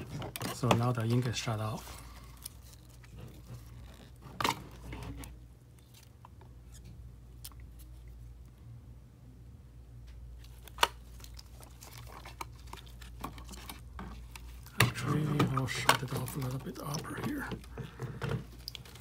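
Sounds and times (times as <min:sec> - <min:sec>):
plastic rustling and scraping: 0:00.0 - 0:07.0, 0:10.4 - 0:19.0.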